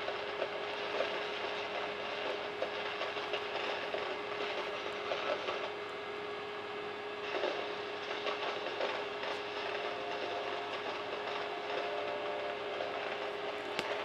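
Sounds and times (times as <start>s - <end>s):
fan noise: 0.0s - 14.0s
projector hum: 0.0s - 14.0s.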